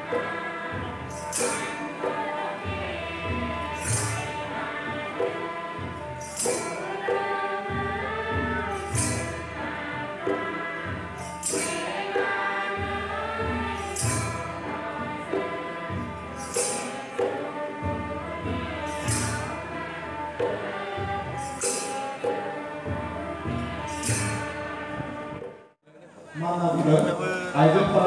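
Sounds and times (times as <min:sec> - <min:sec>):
harmonium: 0:00.0 - 0:25.4
group singing a hymn: 0:00.0 - 0:25.6.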